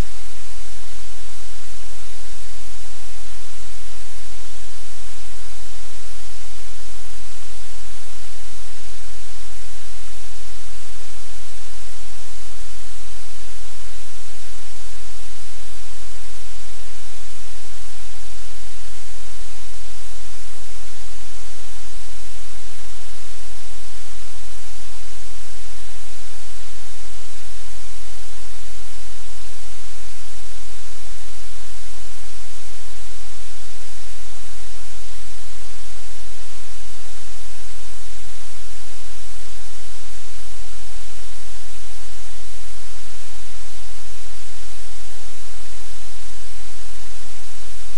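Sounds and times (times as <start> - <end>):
static hiss: 0.0 - 47.9.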